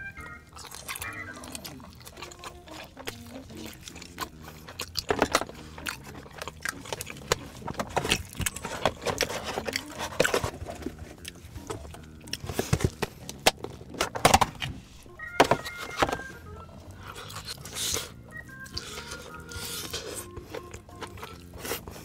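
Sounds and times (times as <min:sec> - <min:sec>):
crunching crispy fried food: 0:00.2 - 0:13.9, 0:16.9 - 0:22.0.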